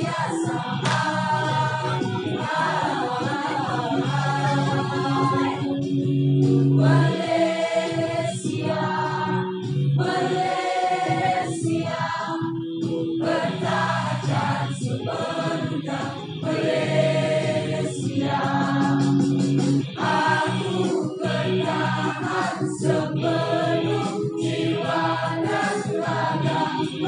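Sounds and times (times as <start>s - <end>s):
choir singing held notes: 0.0s - 27.0s.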